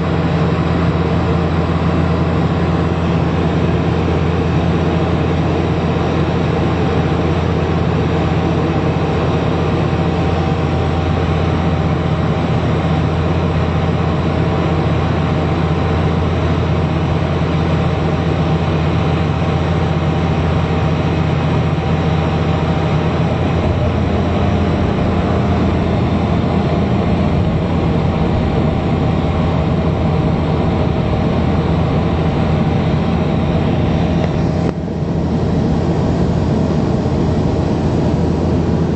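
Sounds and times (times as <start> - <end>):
deep propeller hum: 0.0 - 38.9
rushing airflow: 0.0 - 38.9.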